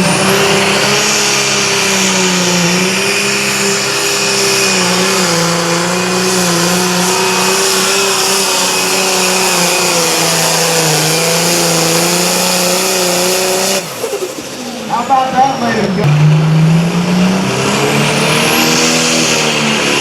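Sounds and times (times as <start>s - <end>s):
tractor engine at high revs: 0.0s - 20.0s.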